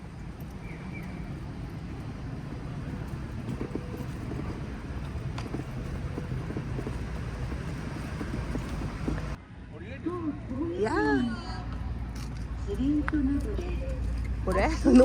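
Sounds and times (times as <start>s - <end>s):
distant traffic: 0.0s - 15.0s
wind: 0.0s - 15.0s.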